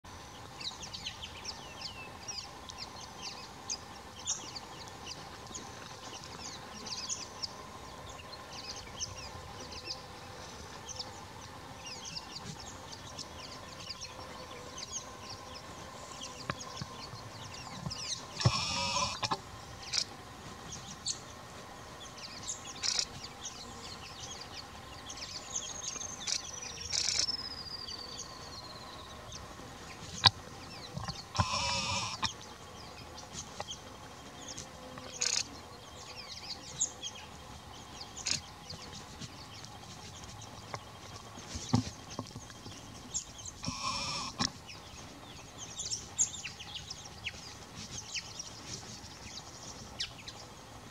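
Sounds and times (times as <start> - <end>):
steady hums: 0.1 - 50.9.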